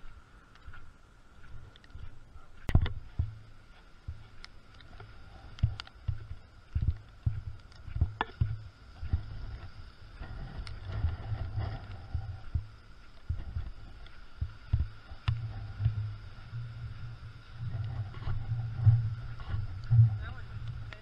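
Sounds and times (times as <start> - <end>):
wind buffeting microphone: 1.4 - 21.0.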